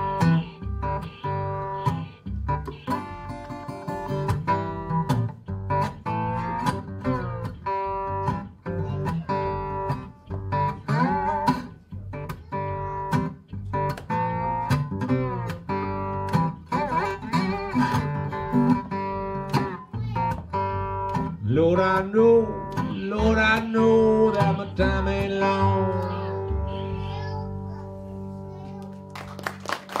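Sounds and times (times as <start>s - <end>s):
acoustic guitar picked notes: 0.0s - 29.2s.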